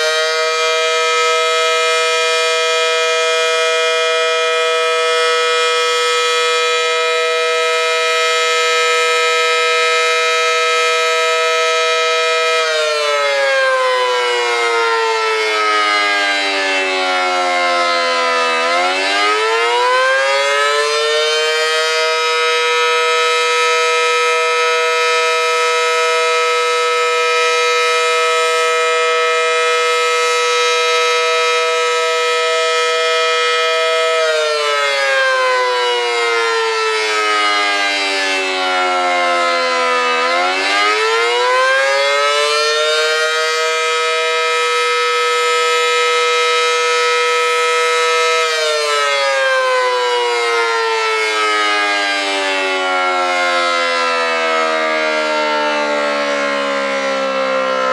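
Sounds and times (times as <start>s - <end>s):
two-tone warning siren: 0.0s - 57.9s.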